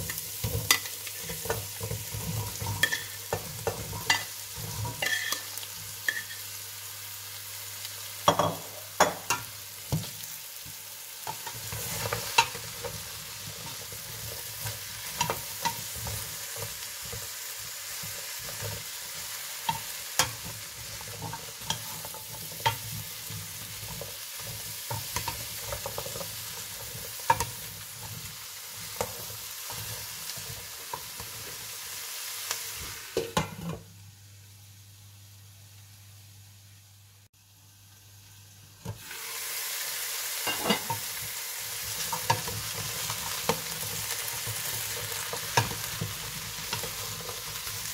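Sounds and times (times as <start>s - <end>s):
vegetables sizzling in butter: 0.0s - 47.9s.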